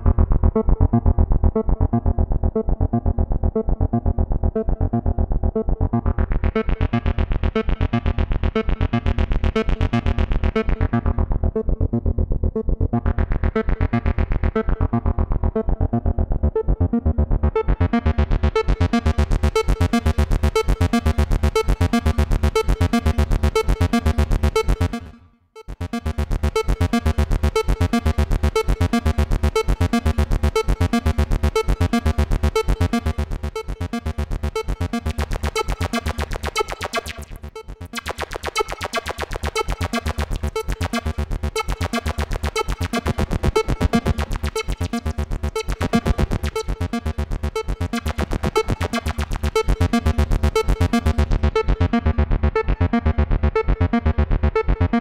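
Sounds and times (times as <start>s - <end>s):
synthesizer bass sequence: 0.0s - 55.0s.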